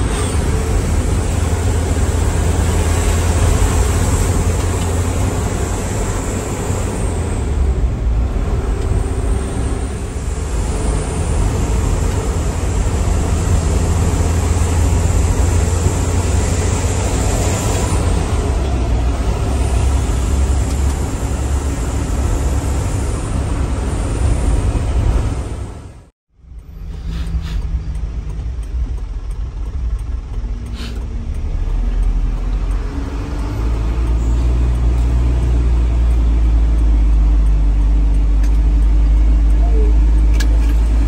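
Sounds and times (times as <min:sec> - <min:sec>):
truck engine drone in cab: 0:00.0 - 0:41.0.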